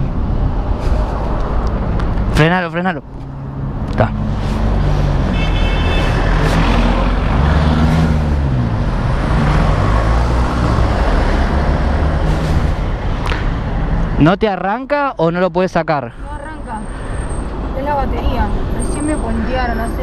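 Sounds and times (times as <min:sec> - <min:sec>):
passing traffic: 0:00.0 - 0:20.0
wind and road rush: 0:00.0 - 0:20.0.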